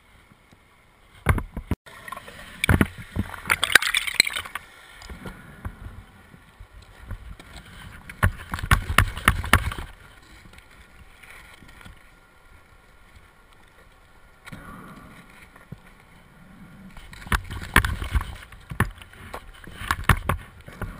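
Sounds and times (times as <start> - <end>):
faint steady noise: 0.0 - 20.9.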